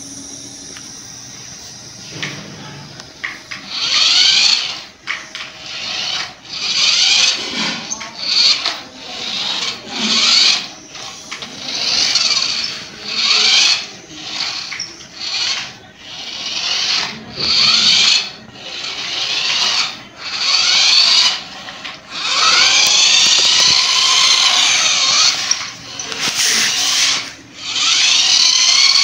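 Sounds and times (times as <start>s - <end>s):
toy car motor whining: 0.0s - 29.0s.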